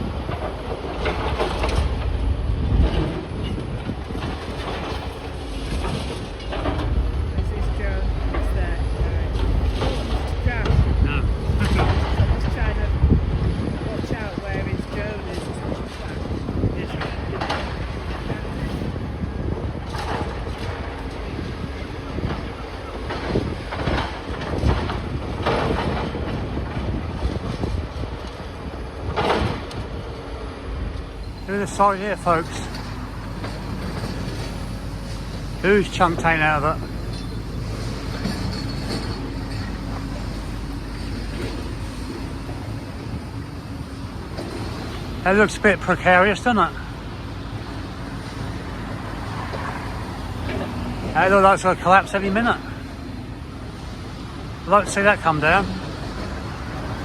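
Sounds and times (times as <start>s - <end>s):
demolition machinery rumbling: 0.0s - 57.0s
wind buffeting microphone: 0.0s - 57.0s.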